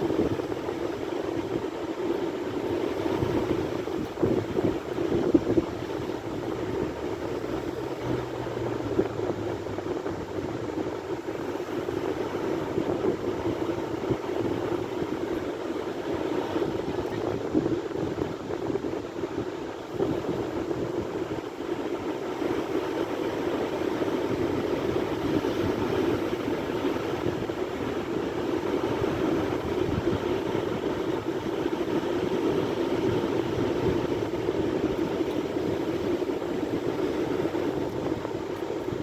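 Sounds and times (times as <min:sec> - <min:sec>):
sea surf rushing: 0:00.0 - 0:39.0.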